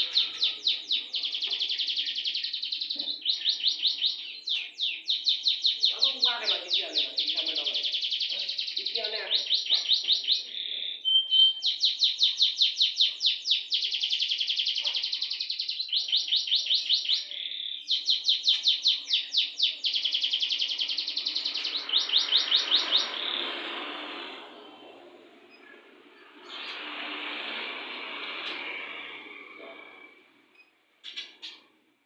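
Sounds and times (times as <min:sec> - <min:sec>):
canary singing trills: 0:00.0 - 0:31.8.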